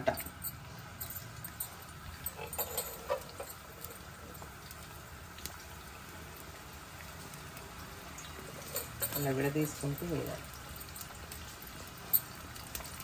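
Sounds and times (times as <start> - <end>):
onions sizzling in hot oil: 1.9 - 13.0.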